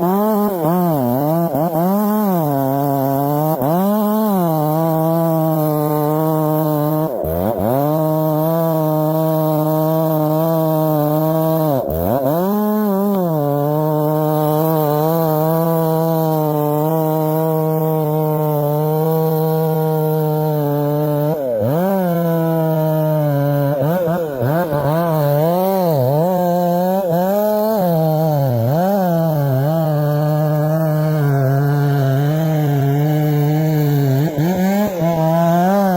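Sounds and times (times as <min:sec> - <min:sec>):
chainsaw running at high revs: 0:00.0 - 0:35.9.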